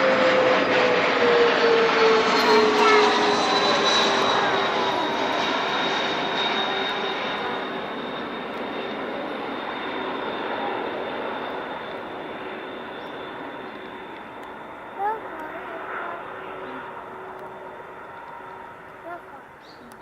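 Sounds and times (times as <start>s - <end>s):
airliner engines whining and roaring: 0.0s - 20.0s.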